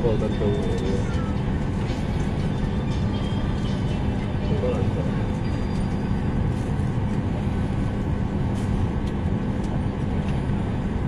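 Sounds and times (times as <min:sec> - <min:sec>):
engine and air-conditioning rumble: 0:00.0 - 0:11.0.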